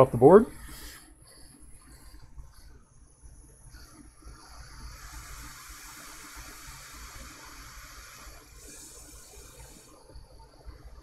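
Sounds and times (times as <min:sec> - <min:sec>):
hot air station hissing: 0:00.0 - 0:10.8.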